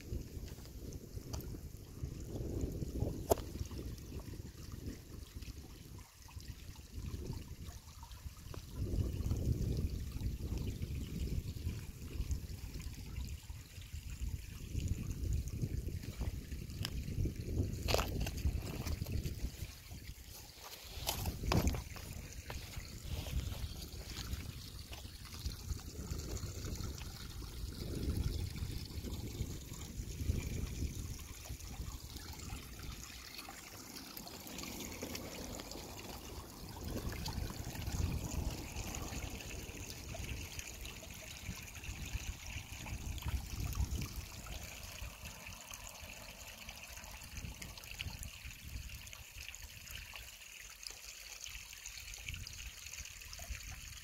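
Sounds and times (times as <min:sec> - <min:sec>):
wind buffeting microphone: 0:00.0 - 0:45.5, 0:47.2 - 0:49.1
water trickling over rocks: 0:00.0 - 0:54.0.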